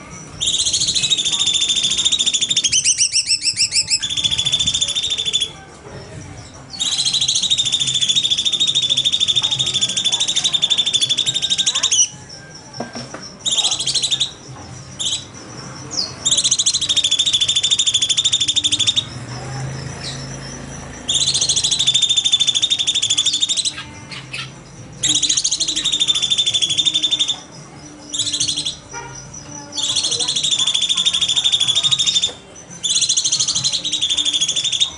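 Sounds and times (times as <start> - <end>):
songbird buzzy trills: 0.0 - 34.9.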